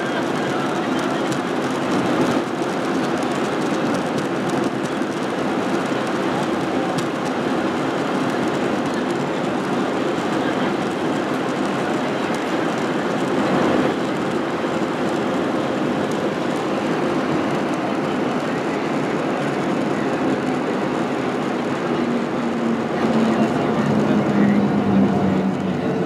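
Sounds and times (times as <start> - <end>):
jet airliner rolling on runway: 0.0 - 26.0.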